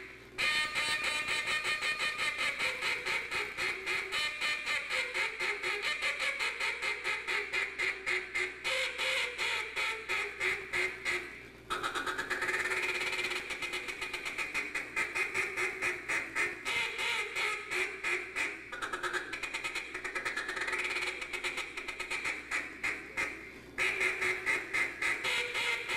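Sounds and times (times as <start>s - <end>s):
duck call quacks: 0.0s - 25.9s.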